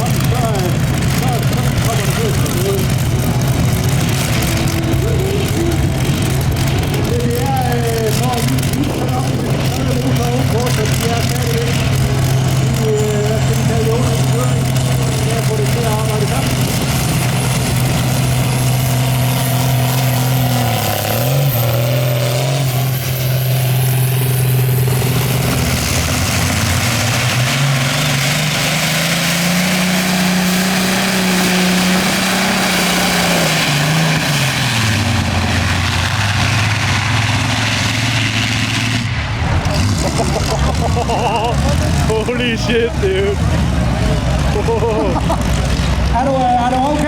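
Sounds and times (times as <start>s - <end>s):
pulling tractor engines running: 0.0s - 47.0s.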